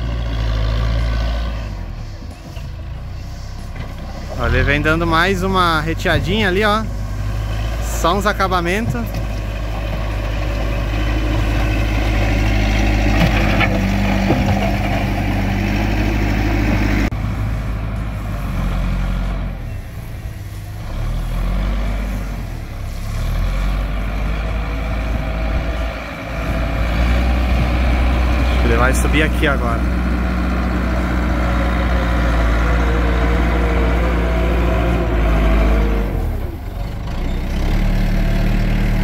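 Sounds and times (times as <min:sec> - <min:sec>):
diesel earthmover engine under load: 0:00.0 - 0:39.0.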